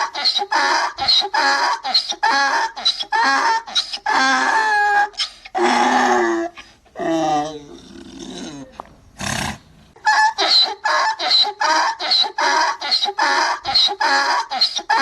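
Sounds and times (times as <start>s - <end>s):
donkey braying: 0.0s - 8.7s, 9.3s - 15.0s.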